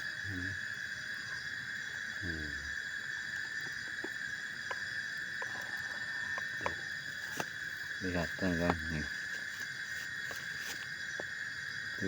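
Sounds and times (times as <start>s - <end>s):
forest insects chorus: 0.0s - 12.0s.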